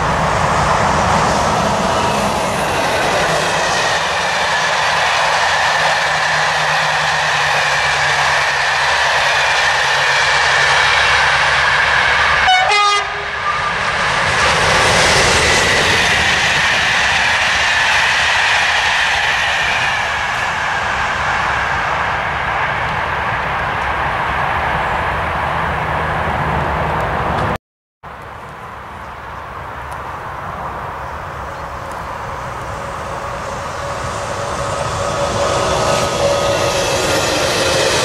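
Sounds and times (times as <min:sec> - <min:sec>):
train wheels rushing on rail: 0:00.0 - 0:38.0.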